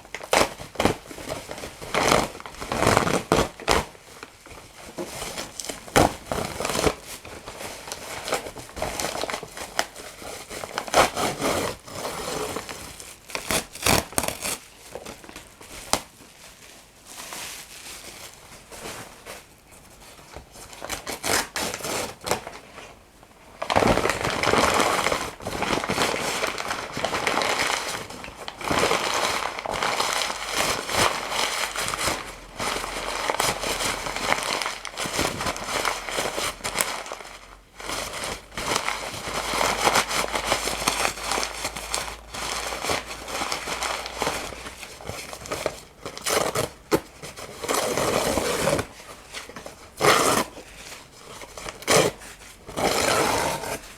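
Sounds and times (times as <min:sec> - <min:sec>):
paper crumpling and tearing: 0:00.1 - 0:19.5, 0:23.6 - 0:53.9.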